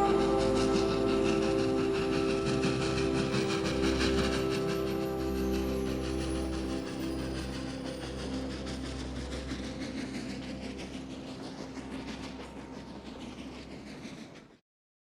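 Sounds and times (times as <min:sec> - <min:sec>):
music: 0:00.0 - 0:14.0
train wheels clickety-clack: 0:00.0 - 0:14.6.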